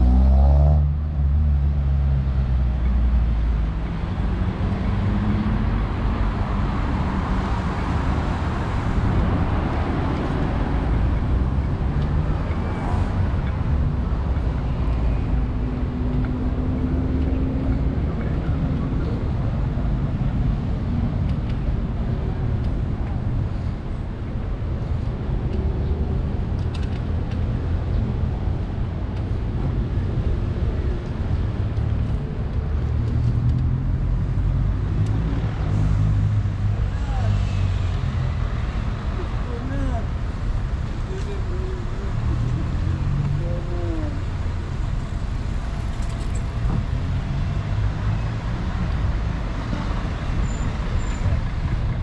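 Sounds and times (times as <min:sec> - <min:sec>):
cars driving past: 0:00.0 - 0:52.0
city street traffic rumble: 0:00.0 - 0:52.0.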